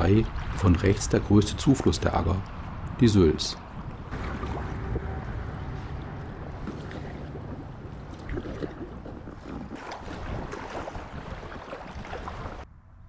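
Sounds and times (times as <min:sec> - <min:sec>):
paddle splashing: 0:00.0 - 0:02.7, 0:03.7 - 0:12.6
wind on microphone: 0:00.0 - 0:13.0.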